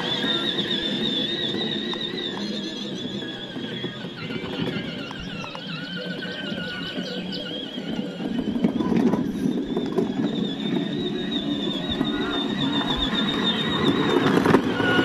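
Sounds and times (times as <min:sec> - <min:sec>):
electric toy car motor whirring: 0:00.0 - 0:15.0.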